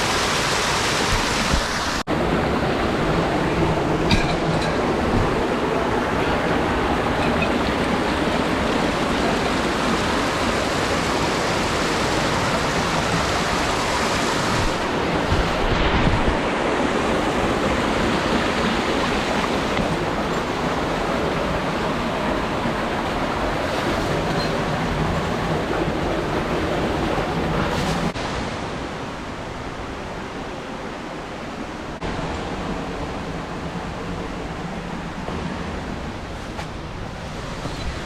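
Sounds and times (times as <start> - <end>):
mountain stream rushing: 0.0 - 38.0.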